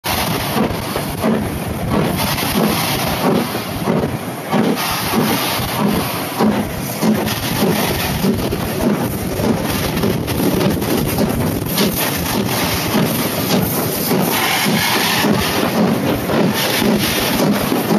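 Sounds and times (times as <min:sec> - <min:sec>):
steam locomotive exhaust beats: 0:00.0 - 0:17.9
wind buffeting microphone: 0:00.1 - 0:17.9.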